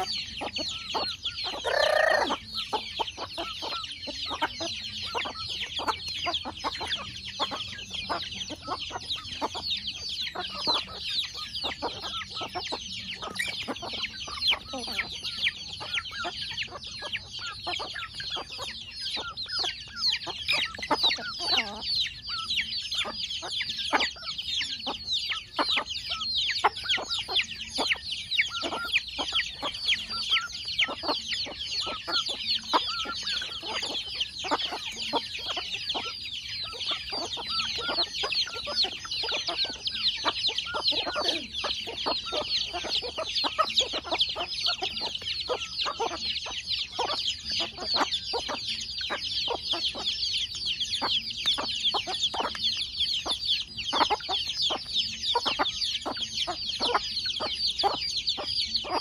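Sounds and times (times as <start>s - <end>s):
chicks peeping: 0.0s - 59.0s
hens clucking: 0.0s - 59.0s.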